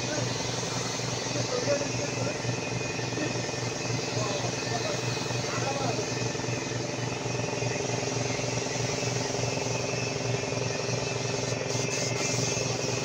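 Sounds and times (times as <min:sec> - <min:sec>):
machine hum with low drone: 0:00.0 - 0:13.0
paint spray gun hissing: 0:00.0 - 0:13.0.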